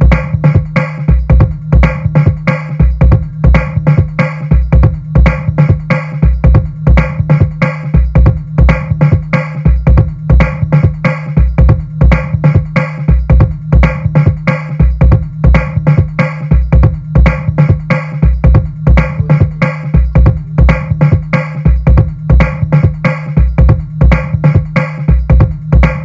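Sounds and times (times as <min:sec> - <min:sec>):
electronic music with drum machine: 0:00.0 - 0:26.0.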